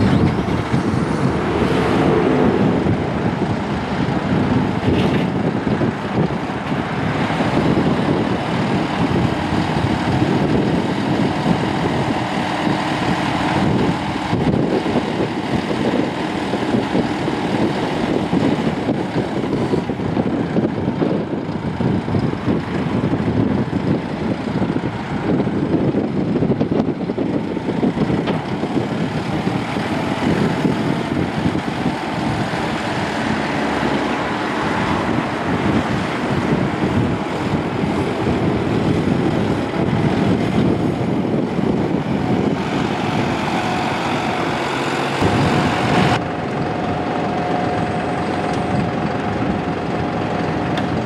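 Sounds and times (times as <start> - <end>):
tractor diesel engine: 0.0 - 51.0.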